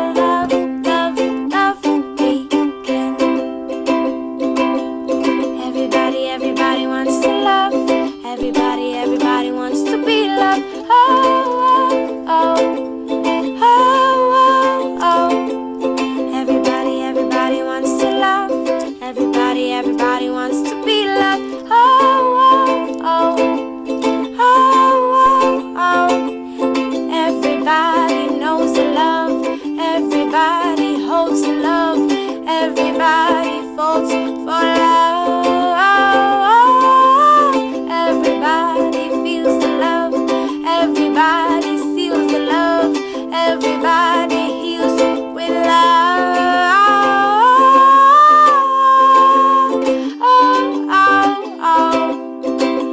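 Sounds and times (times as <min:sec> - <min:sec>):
plucked-string tune: 0:00.0 - 0:52.9.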